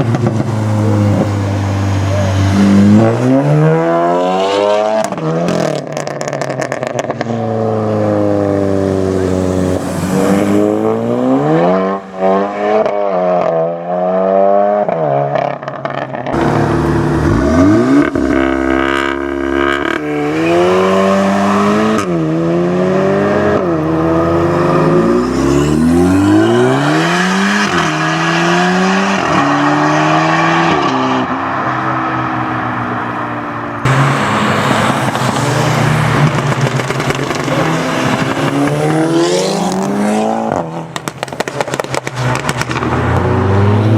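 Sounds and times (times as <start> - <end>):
car engine revving: 0.0 - 43.9.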